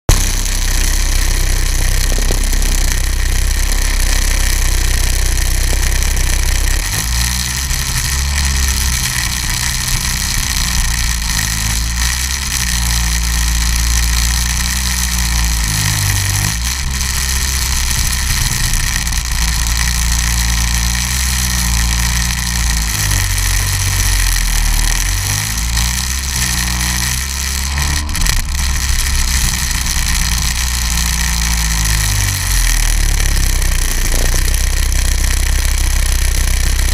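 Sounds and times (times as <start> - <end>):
snowmobile engine running: 0.0 - 36.9.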